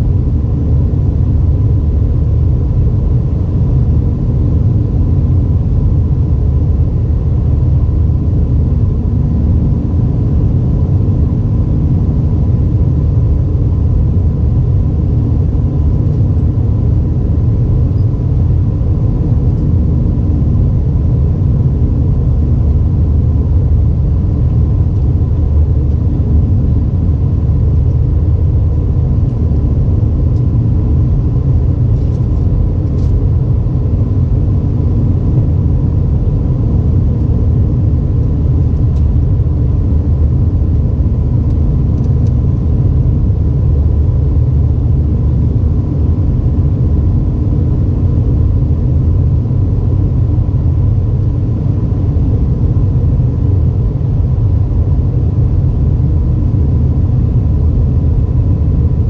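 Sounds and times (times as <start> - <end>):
airplane engine rumble: 0.0 - 59.0
faint steady whine: 0.0 - 59.0.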